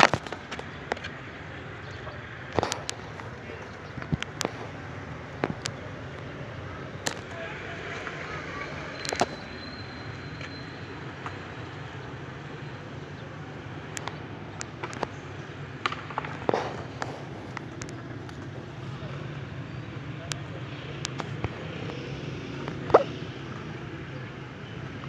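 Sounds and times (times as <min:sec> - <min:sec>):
distant traffic rumble: 0:00.0 - 0:25.0.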